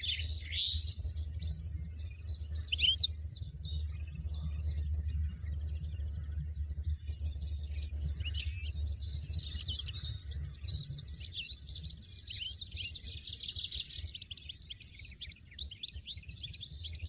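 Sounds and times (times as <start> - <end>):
finches twittering: 0.0 - 17.0.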